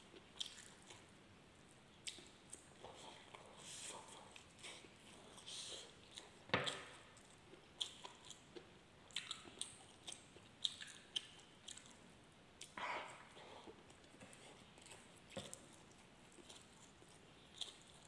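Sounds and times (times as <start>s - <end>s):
man chewing food: 0.1s - 18.0s.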